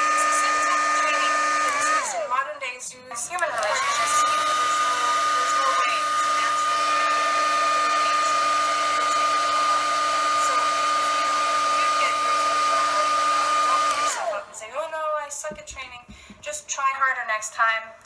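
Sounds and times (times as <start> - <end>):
hair dryer running: 0.0 - 16.6.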